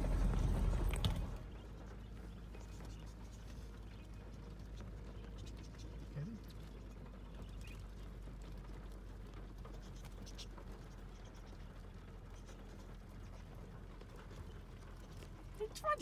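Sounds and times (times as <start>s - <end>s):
bird feet pattering on car: 0.1s - 16.0s.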